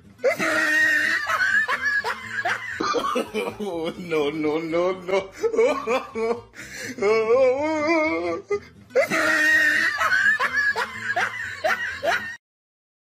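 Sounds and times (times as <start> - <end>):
person laughing: 0.2 - 4.3, 5.0 - 12.4.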